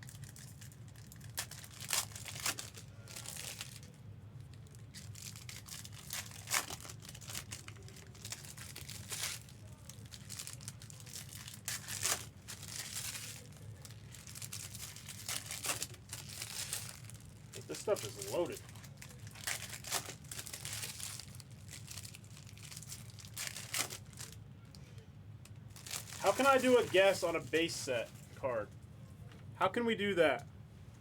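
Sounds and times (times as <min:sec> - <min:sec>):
wrappers crinkling and tearing: 0:00.0 - 0:24.8, 0:25.5 - 0:28.3.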